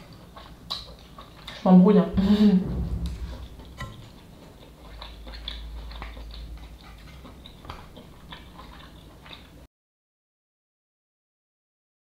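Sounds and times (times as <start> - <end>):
quiet chewing: 0.0 - 9.7.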